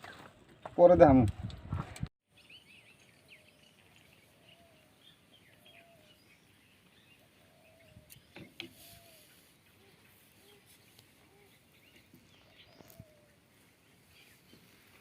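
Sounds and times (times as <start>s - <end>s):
birds chirping: 2.3s - 15.0s.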